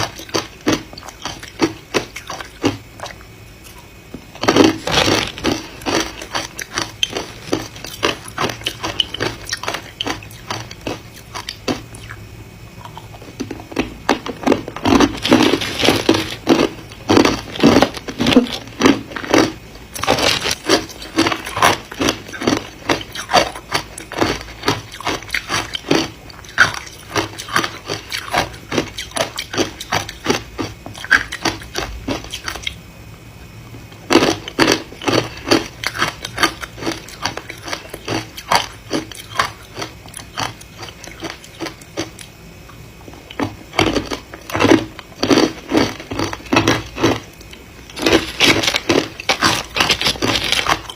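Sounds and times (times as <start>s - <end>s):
ice being chewed: 0.0s - 12.2s, 12.8s - 32.8s, 34.1s - 42.3s, 43.1s - 50.9s.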